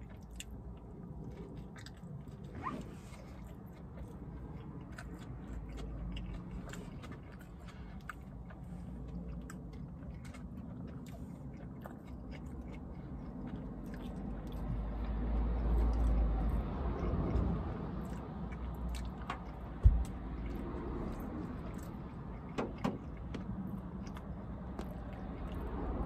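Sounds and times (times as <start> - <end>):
person chewing: 0.0 - 26.0.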